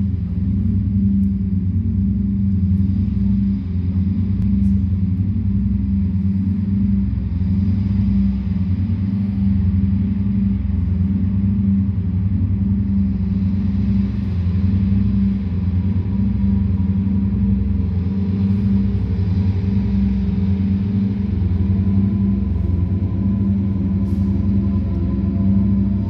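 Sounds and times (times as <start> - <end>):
deep electronic drone: 0.0 - 26.0
low throbbing pulse: 0.0 - 26.0.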